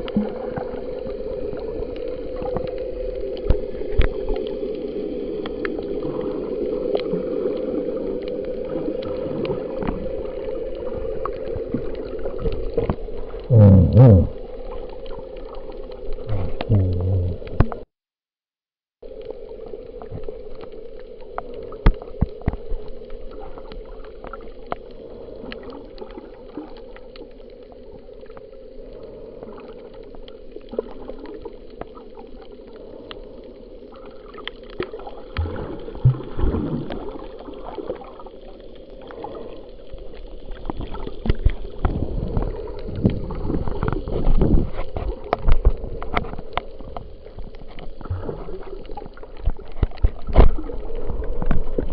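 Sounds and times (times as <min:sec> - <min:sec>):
muffled underwater hum: 0:00.0 - 0:17.8, 0:18.4 - 0:51.9.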